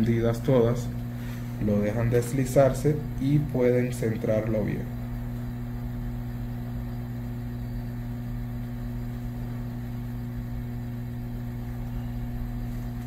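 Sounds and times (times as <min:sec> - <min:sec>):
hot air station hum and hiss: 0:00.0 - 0:13.0.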